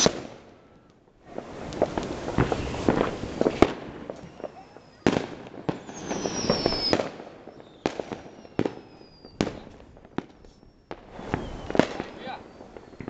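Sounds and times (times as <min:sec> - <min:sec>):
firework whistles: 0:00.0 - 0:00.4, 0:01.3 - 0:13.0
firecrackers crackling: 0:00.0 - 0:13.0
firework bangs: 0:00.0 - 0:13.0.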